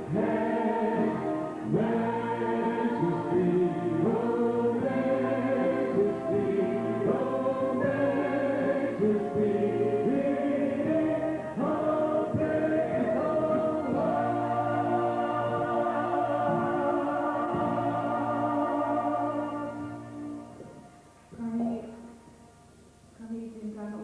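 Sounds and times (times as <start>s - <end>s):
choir singing in harmony: 0.0s - 21.1s.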